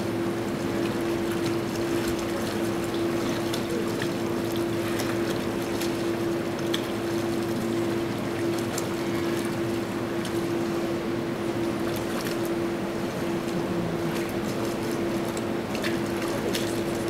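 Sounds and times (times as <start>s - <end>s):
hands sloshing liquid in metal tank: 0.0s - 17.0s
steady machine hum: 0.0s - 17.0s.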